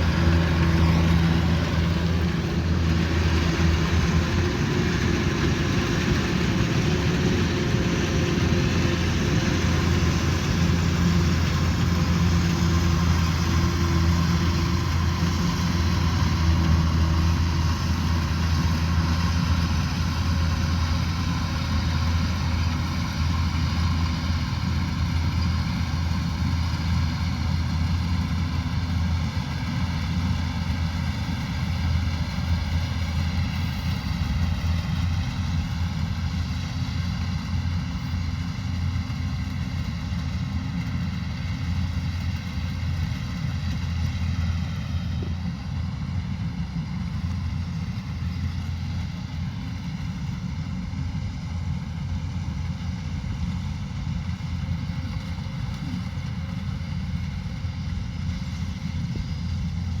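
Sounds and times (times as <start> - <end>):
combine harvester engine drone: 0.0 - 60.0.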